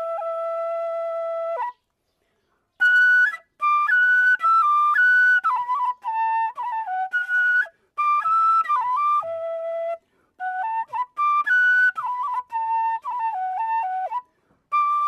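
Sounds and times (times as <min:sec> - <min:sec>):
solo melody: 0:00.0 - 0:01.9, 0:02.8 - 0:15.0.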